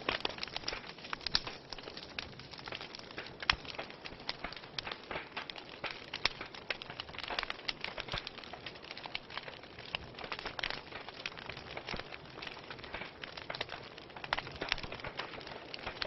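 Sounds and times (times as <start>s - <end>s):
fire popping and snapping: 0.0s - 16.0s
hiss of burning logs: 0.0s - 16.0s.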